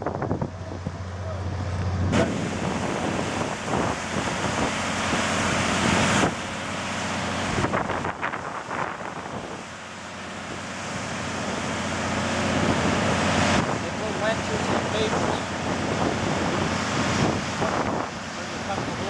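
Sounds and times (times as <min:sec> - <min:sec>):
low machinery hum: 0:00.0 - 0:19.0
wind buffeting microphone: 0:00.0 - 0:19.0.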